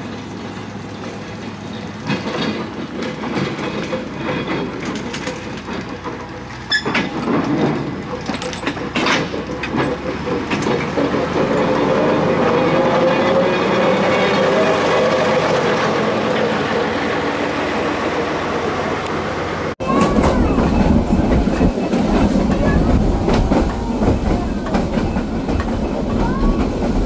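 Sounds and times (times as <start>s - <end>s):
locomotive running hum: 0.0s - 27.0s
train wheels clacking over rail joints: 0.0s - 27.0s.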